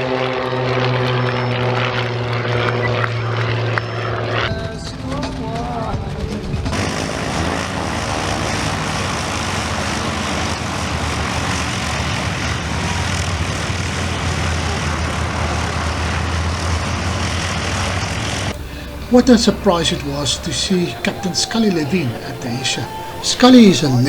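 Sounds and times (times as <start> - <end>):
propeller aircraft engine drone: 0.0 - 24.0.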